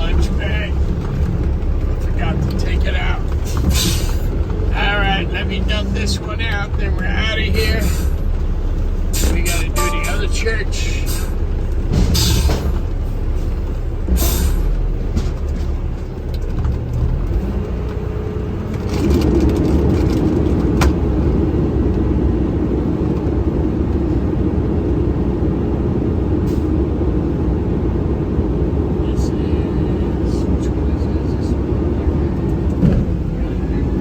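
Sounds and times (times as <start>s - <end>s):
garbage truck engine revving: 0.0s - 28.9s.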